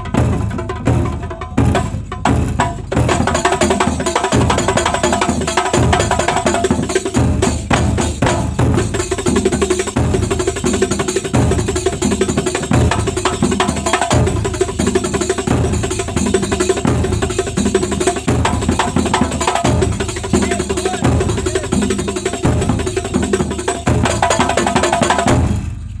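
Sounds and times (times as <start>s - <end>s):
hand drums beating fast rhythm: 0.0s - 25.6s
deep drum strokes: 0.0s - 26.0s.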